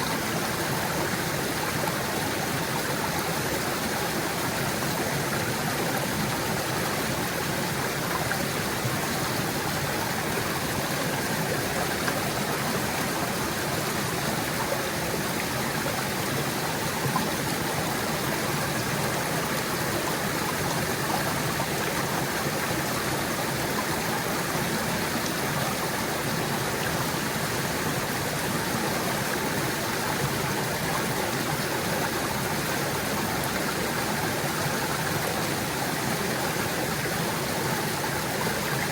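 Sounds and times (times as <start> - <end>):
stream gurgling over rocks: 0.0 - 38.9.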